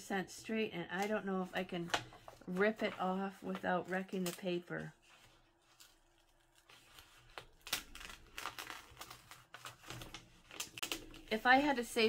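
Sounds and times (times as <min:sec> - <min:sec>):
paper peeling and rustling: 0:00.9 - 0:12.0.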